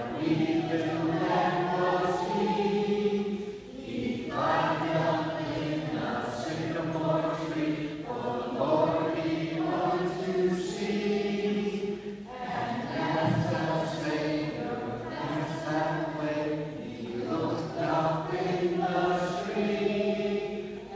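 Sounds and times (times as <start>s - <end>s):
children's choir singing: 0.0s - 20.9s.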